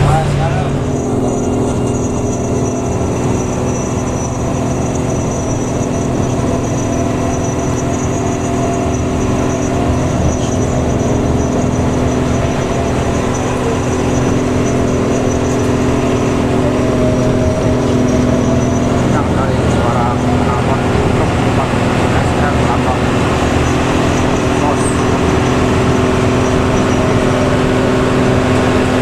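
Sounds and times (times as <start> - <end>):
bus engine droning: 0.0 - 29.0.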